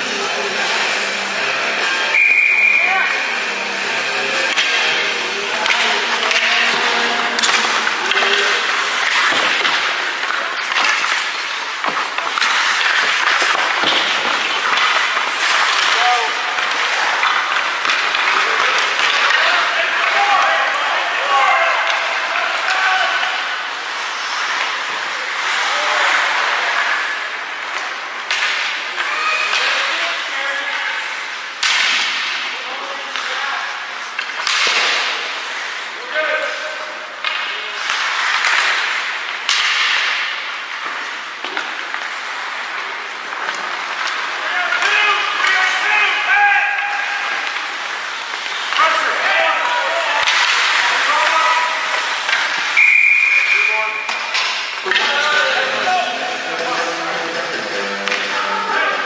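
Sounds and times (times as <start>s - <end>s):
hockey sticks and puck clacking: 3.9s - 59.0s.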